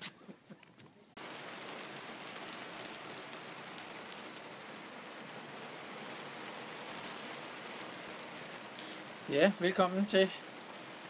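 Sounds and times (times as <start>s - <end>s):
heavy rain on a boat awning: 1.2s - 11.0s.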